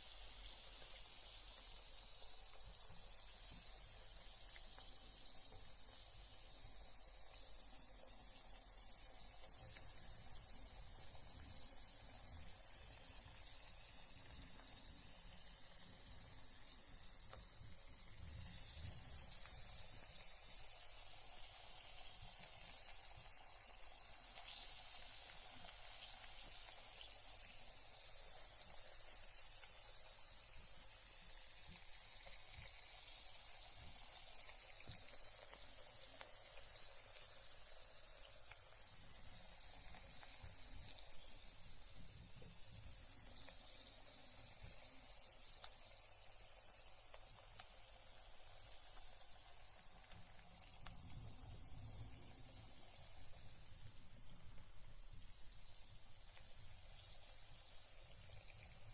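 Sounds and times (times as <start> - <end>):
bath bomb fizzing in water: 0.0 - 58.9.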